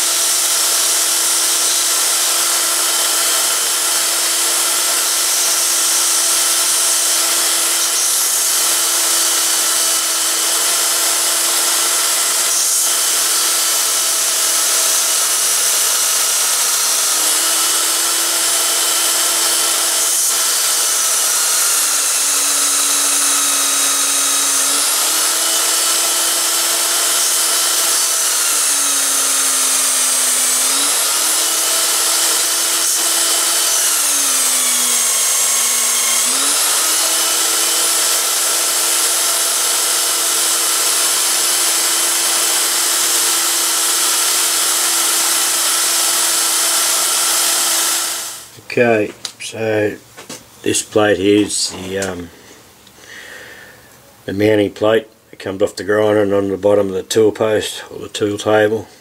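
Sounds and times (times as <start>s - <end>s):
belt sander grinding steel: 0.0s - 49.6s.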